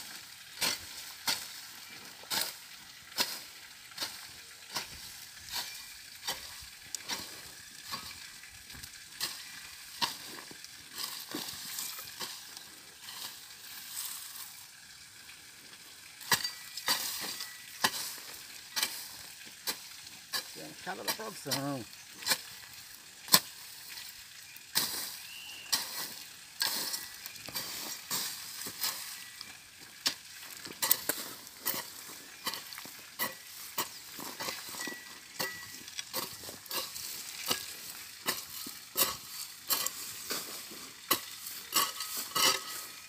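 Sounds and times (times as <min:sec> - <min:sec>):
hoe chopping and scraping soil: 0:00.0 - 0:08.2, 0:09.1 - 0:14.5, 0:16.2 - 0:22.6, 0:23.3 - 0:24.1, 0:24.7 - 0:43.0.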